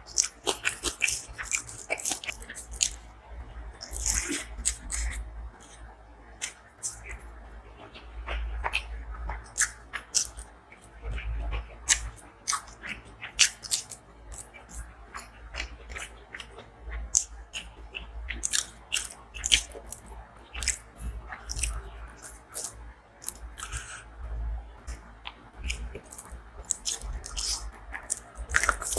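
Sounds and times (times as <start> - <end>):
chewing with crunches: 0.0 - 28.9.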